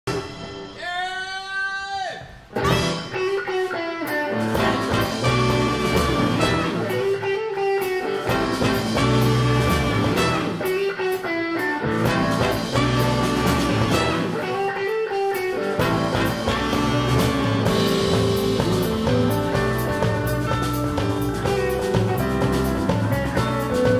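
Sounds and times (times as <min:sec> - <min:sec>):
live band instrumental groove: 0:00.1 - 0:00.8, 0:02.3 - 0:23.9.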